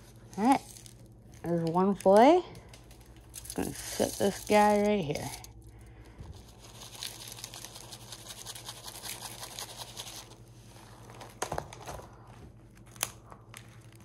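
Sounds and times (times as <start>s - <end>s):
breading crumbs rustling: 0.0s - 14.0s.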